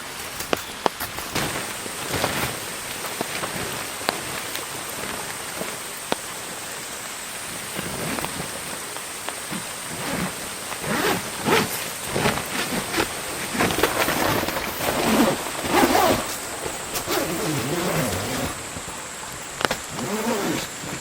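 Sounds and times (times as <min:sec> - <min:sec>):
heavy rain falling: 0:00.0 - 0:21.0
irregular knocks and rustles: 0:00.1 - 0:06.5, 0:07.6 - 0:21.0.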